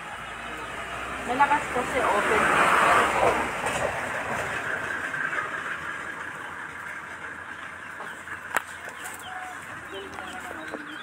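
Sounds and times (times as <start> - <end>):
passing motor vehicle engine: 0.0 - 11.0.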